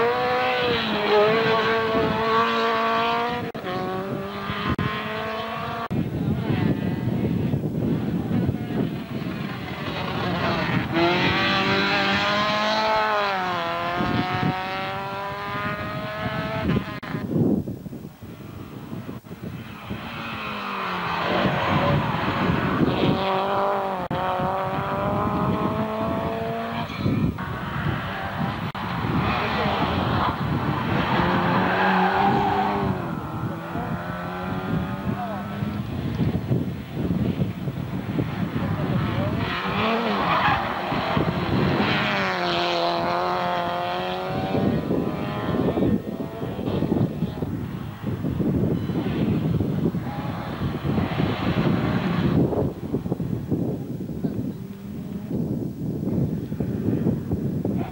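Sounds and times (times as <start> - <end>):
racing car engine at hard throttle: 0.0 - 17.3, 18.3 - 57.9.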